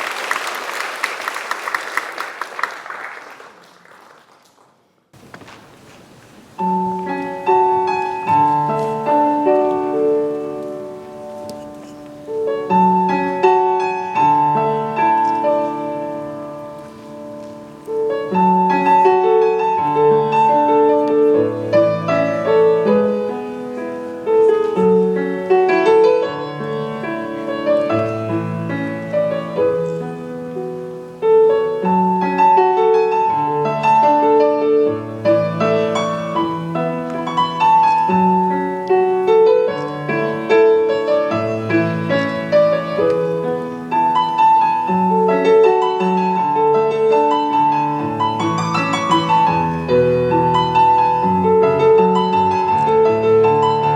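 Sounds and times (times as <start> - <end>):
classical piano piece: 5.2 - 53.9.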